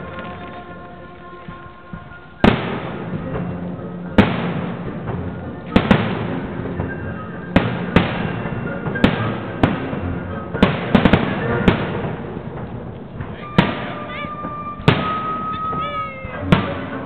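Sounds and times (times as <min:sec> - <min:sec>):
firework shells bursting: 0:02.4 - 0:17.0.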